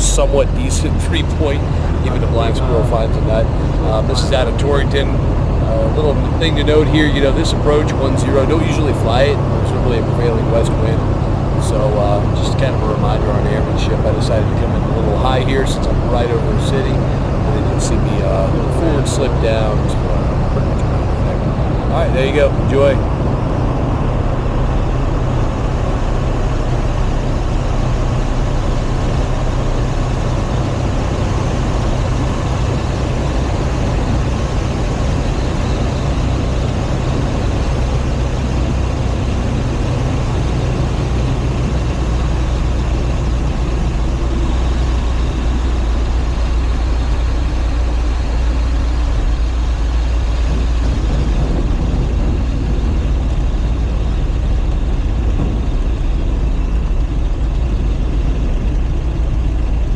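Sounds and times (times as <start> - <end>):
airplane piston engine droning: 0.0 - 59.9.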